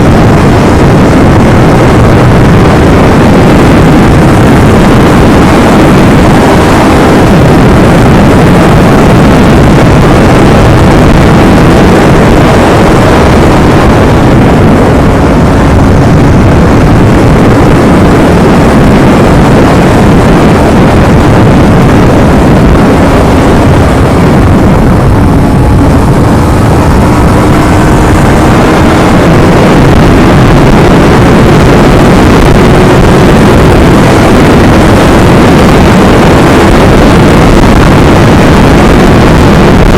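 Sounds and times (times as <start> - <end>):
motorcycle engine cruising: 0.0 - 39.7
wind rushing: 0.0 - 39.9.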